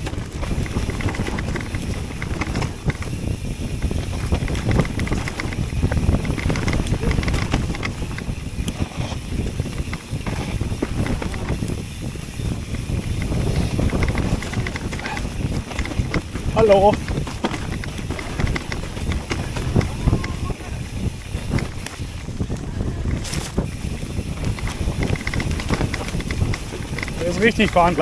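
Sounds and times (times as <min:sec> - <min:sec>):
bike clicking and rattling: 0:00.0 - 0:28.0
tyres rolling over leaves: 0:00.0 - 0:28.0
wind buffeting microphone: 0:00.0 - 0:28.0.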